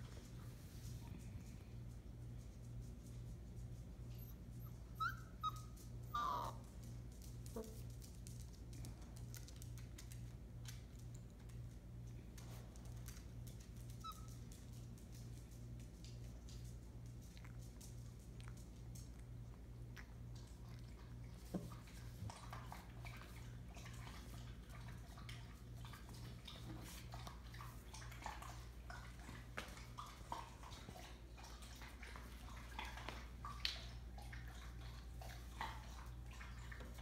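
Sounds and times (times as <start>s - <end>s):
low electrical hum: 0.0s - 37.0s
puppies lapping and chewing: 0.0s - 37.0s.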